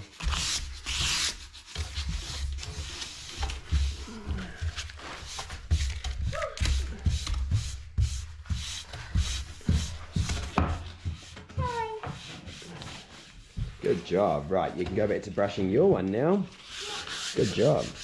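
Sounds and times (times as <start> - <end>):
rubbing on wooden drawer: 0.0 - 15.7, 16.5 - 18.0.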